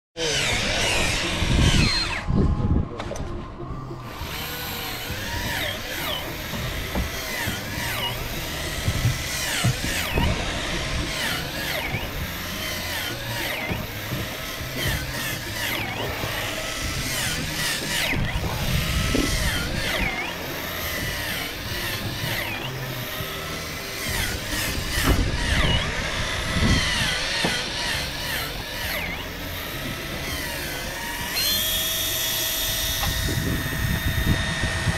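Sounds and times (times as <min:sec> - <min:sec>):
electric fishing reel motor whirring: 0:00.2 - 0:02.6, 0:03.8 - 0:34.9.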